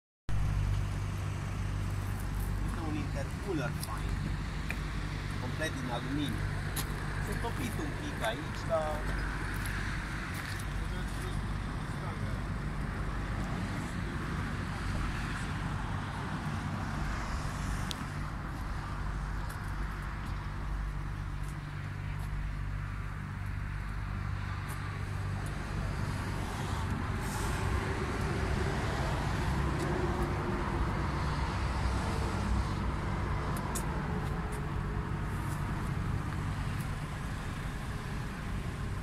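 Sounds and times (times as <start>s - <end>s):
vehicle engine idling: 0.3s - 39.0s.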